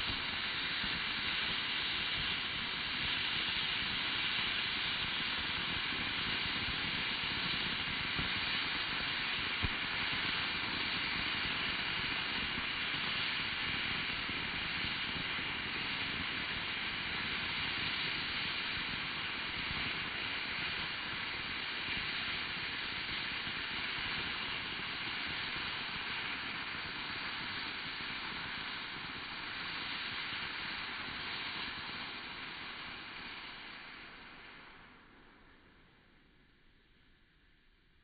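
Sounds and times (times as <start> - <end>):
rocket motor exhaust hiss: 0.0 - 36.4.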